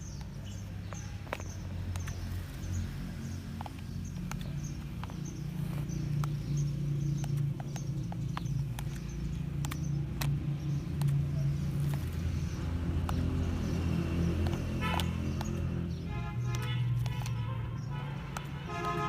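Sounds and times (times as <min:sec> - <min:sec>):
light sharp clicks: 0:00.0 - 0:19.0
low motor hum: 0:00.3 - 0:19.0.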